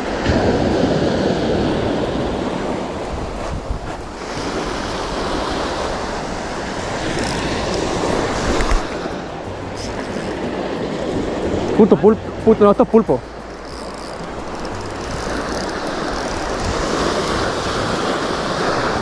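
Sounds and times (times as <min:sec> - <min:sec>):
surf washing onto beach: 0:00.0 - 0:19.0
wind gusting across microphone: 0:00.0 - 0:19.0.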